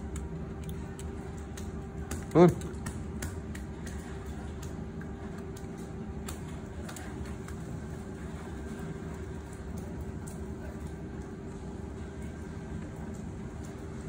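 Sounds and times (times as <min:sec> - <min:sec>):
low rumbling hum: 0:00.0 - 0:14.0.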